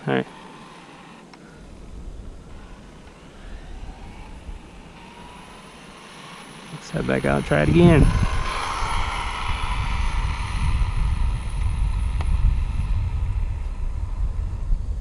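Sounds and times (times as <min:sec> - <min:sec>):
wind rumbling on microphone: 0:01.6 - 0:05.9, 0:07.0 - 0:15.0.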